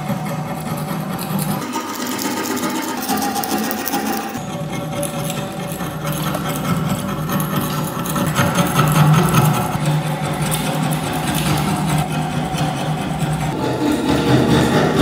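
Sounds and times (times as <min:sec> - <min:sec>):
metal scraper scraping rust: 0:00.0 - 0:15.0.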